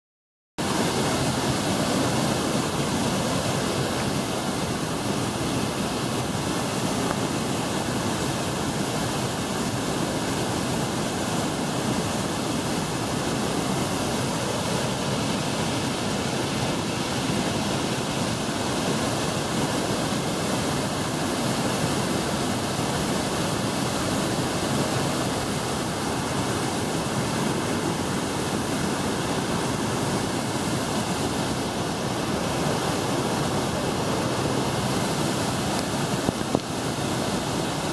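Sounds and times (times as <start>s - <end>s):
waterfall rushing: 0.6s - 37.9s.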